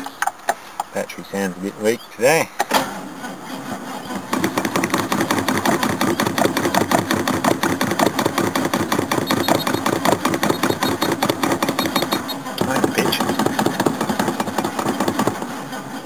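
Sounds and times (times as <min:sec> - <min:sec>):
car engine running unevenly: 0:00.0 - 0:16.0.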